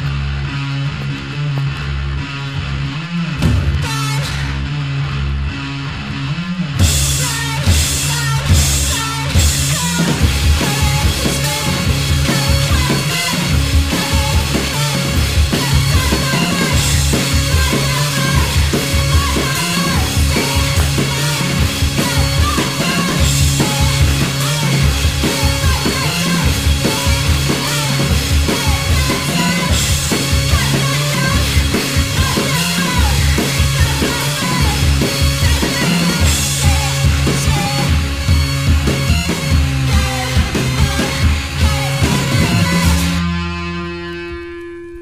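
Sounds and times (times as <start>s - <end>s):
low bass notes: 0.0s - 45.0s
fast drum kit: 2.6s - 4.6s, 6.6s - 43.6s.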